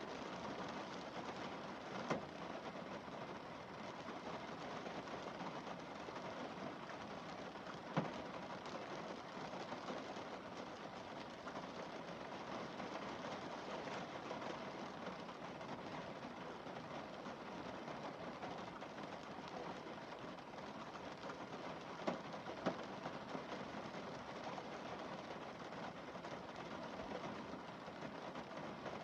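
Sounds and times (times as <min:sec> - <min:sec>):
rain on car windscreen: 0:00.0 - 0:29.0.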